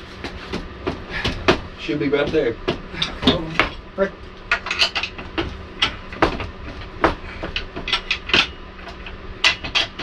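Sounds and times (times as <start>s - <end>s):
metallic clanks and knocks: 0.8s - 3.9s, 4.5s - 10.0s.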